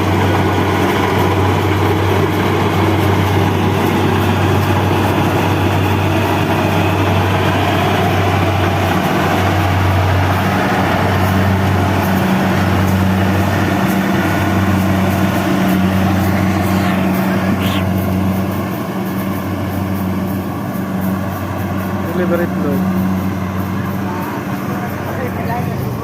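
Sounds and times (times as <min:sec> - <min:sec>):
combine harvester running: 0:00.0 - 0:26.0
higher engine tone: 0:00.0 - 0:26.0.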